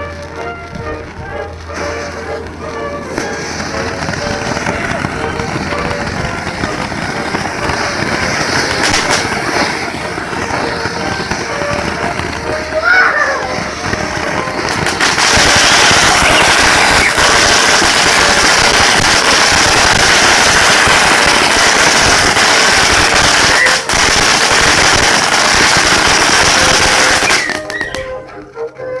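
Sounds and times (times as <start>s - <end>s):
fireworks crackling bangs: 0.0s - 28.5s.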